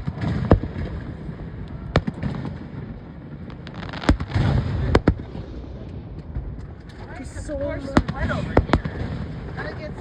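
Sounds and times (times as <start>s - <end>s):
fireworks booming: 0.0s - 10.0s
fireworks pops and crackling: 0.0s - 10.0s
rumbling echo: 0.0s - 10.0s.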